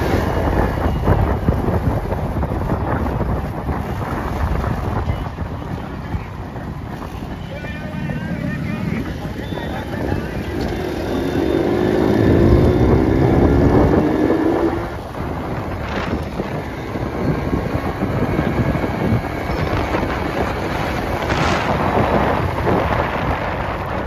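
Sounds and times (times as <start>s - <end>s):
motorcycle engine speeding up: 0.0s - 24.0s
wind buffeting microphone: 0.0s - 24.0s.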